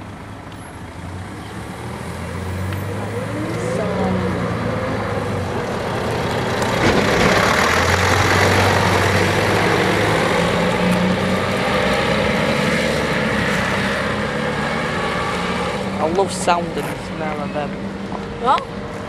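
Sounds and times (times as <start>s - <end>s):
diesel bus driving past: 0.0s - 19.0s.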